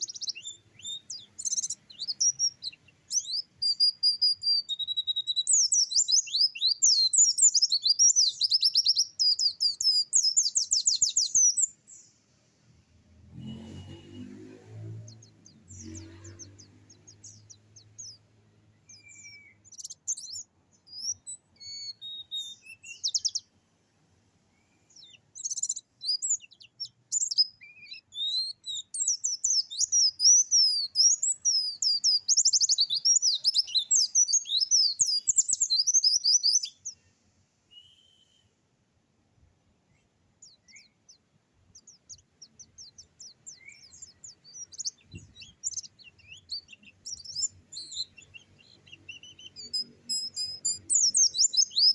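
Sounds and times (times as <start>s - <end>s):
songbird singing chirps and trills: 0.0s - 51.9s.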